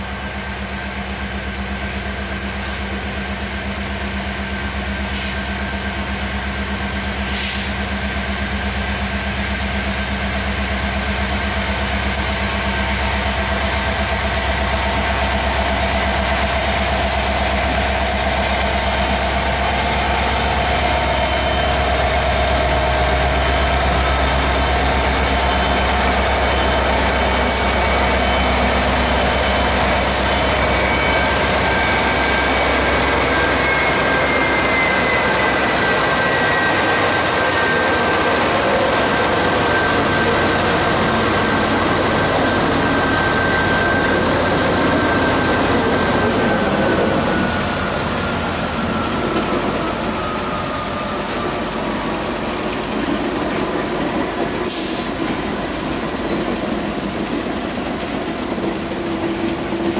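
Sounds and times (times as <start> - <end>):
locomotive engine rumble: 0.0 - 59.9.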